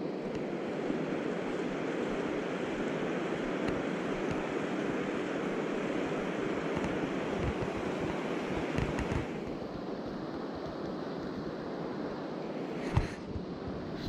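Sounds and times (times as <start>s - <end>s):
stream rushing over rocks: 0.0s - 13.0s
wind rumble on microphone: 0.0s - 14.0s.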